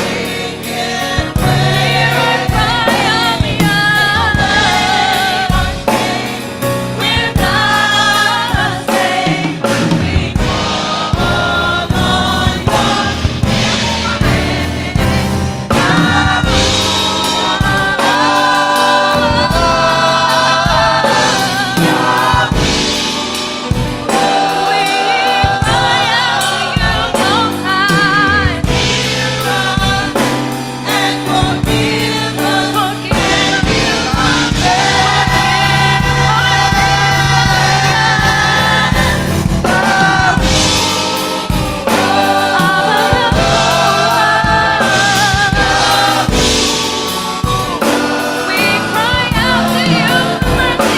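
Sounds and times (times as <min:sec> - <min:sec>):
choir singing in harmony: 0:00.0 - 0:50.9.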